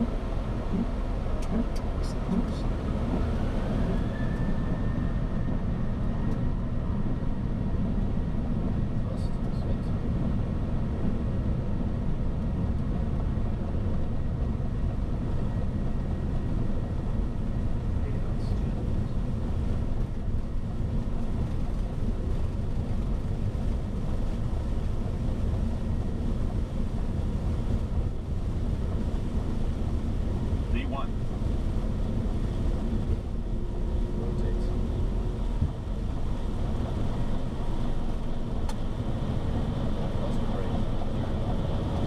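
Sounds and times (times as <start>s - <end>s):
aircraft engine noise: 0.0s - 42.0s.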